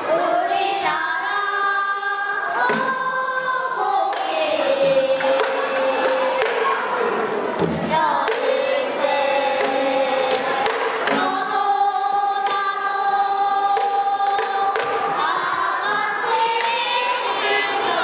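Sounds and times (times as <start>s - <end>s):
children singing: 0.0s - 18.0s.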